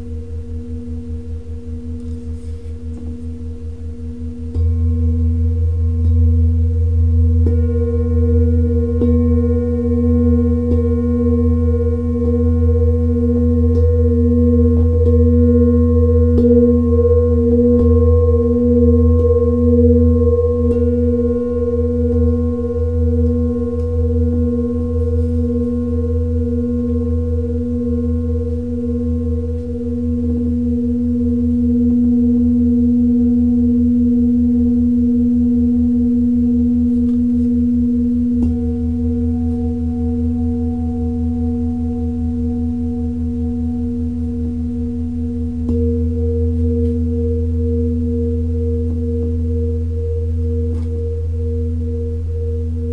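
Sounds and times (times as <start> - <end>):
singing bowl ringing: 0.0 - 52.9.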